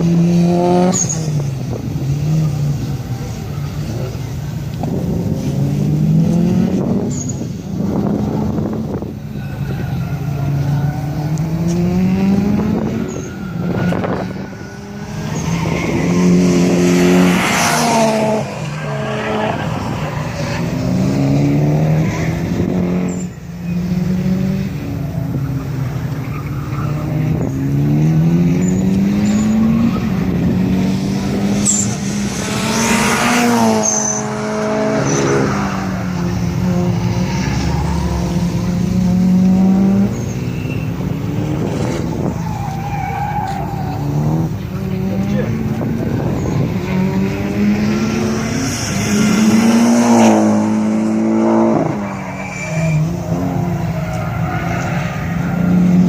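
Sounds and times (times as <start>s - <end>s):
rally car engine accelerating: 0.0s - 56.0s
tyres skidding: 0.0s - 56.0s.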